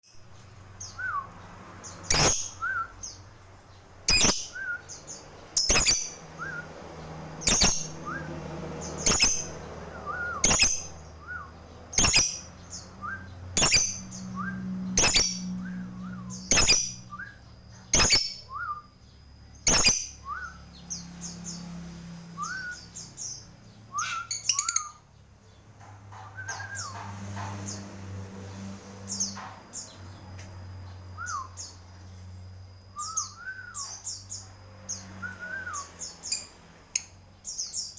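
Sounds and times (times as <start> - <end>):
lovebird chirping: 0.1 - 25.6, 33.0 - 37.9.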